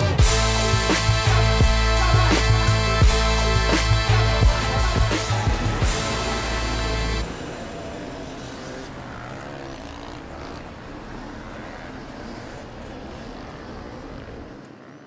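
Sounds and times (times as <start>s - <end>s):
motorcycle engines droning: 0.0s - 15.0s.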